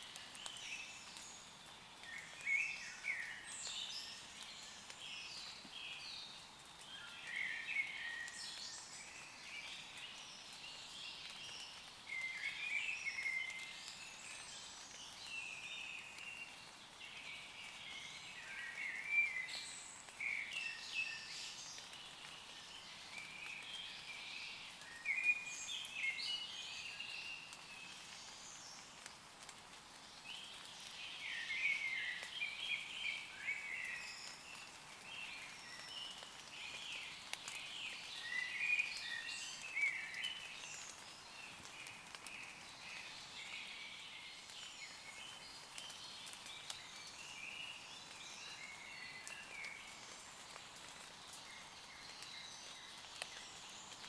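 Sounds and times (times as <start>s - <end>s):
rain pattering on leaves: 0.0s - 54.0s
songbirds singing: 0.0s - 54.0s.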